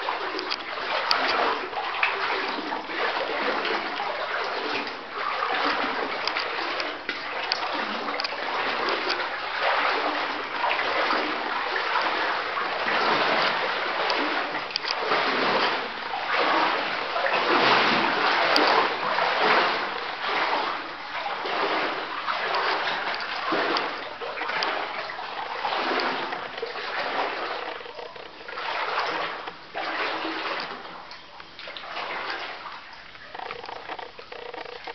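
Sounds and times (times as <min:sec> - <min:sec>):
person wading through water: 0:00.0 - 0:34.9.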